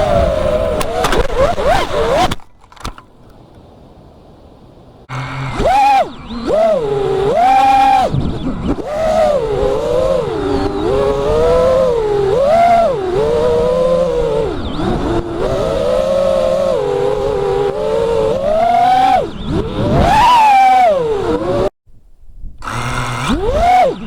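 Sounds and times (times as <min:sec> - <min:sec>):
quadcopter motors whining: 0:00.0 - 0:03.0, 0:05.1 - 0:21.7, 0:22.6 - 0:24.0.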